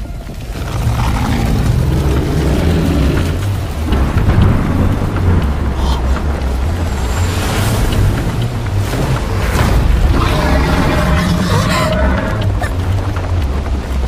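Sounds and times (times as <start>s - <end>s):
rolling thunder rumble: 0.0s - 14.0s
wind and rain rushing: 0.0s - 14.0s.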